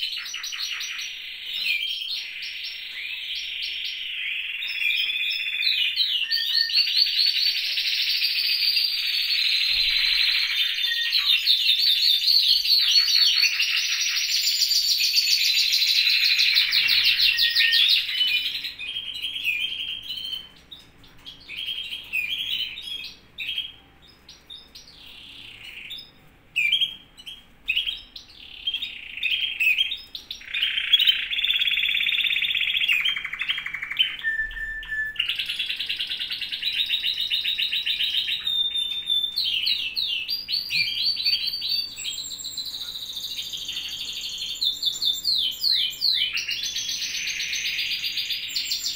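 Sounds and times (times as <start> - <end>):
canaries singing trills and chirps: 0.0 - 48.9.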